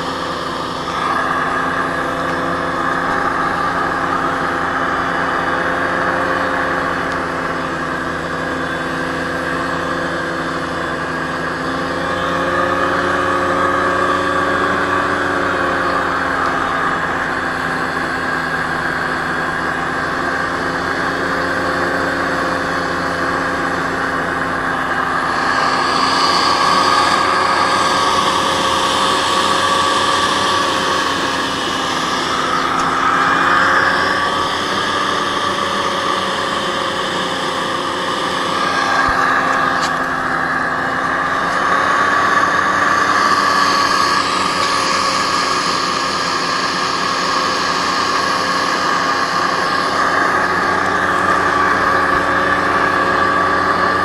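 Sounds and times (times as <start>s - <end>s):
hovercraft engine running: 0.0s - 54.0s.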